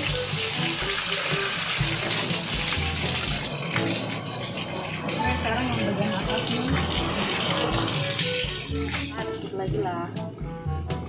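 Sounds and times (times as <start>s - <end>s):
water spraying onto truck: 0.0s - 9.2s.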